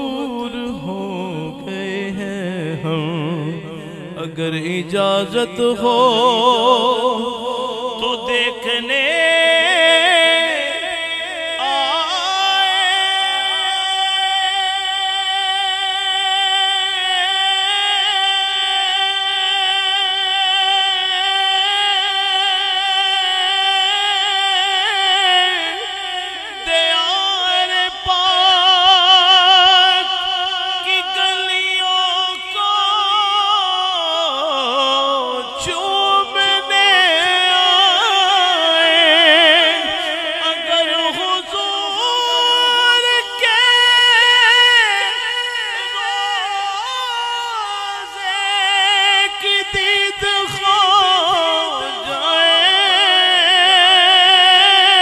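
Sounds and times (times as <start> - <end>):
man singing unaccompanied: 0.0 - 55.0.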